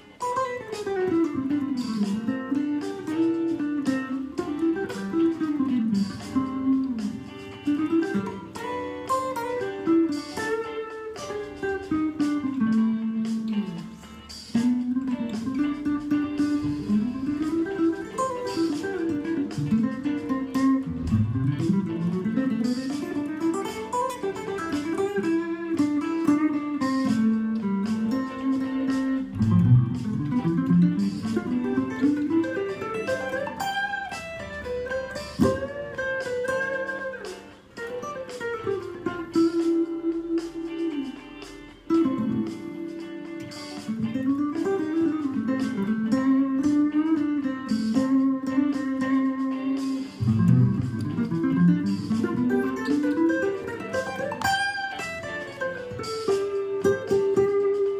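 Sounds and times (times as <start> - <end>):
electric guitar single-note lines: 0.0 - 57.9.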